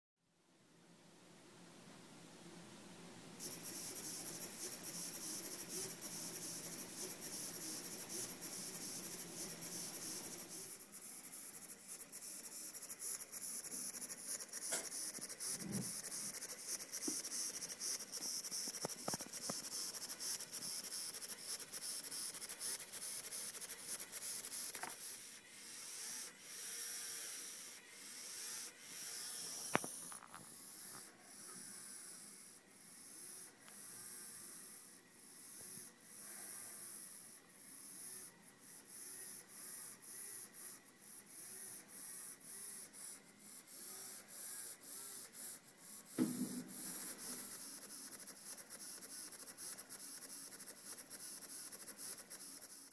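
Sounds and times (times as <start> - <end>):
small electric motors buzzing: 3.4 - 52.9.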